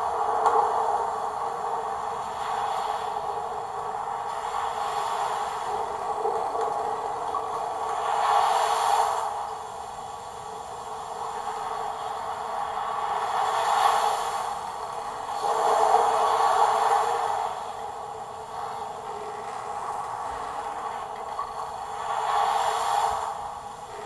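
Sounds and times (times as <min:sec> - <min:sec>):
storm wind and waves: 0:00.0 - 0:24.0.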